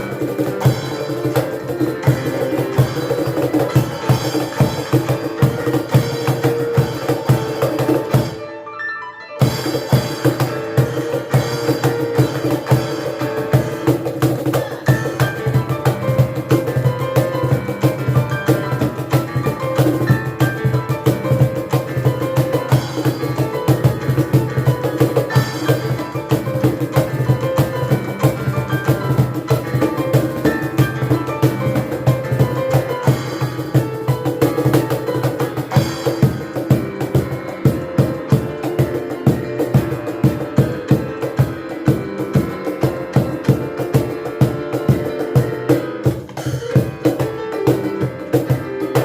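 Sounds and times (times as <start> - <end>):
hand-drummed cajon beat: 0.0 - 8.5, 9.4 - 49.0
piano notes: 0.0 - 49.0.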